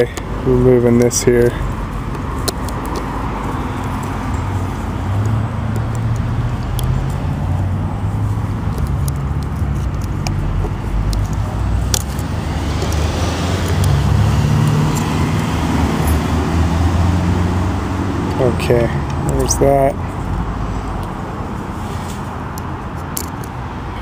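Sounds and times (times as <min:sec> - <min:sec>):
vehicle traffic rumble: 0:00.0 - 0:24.0.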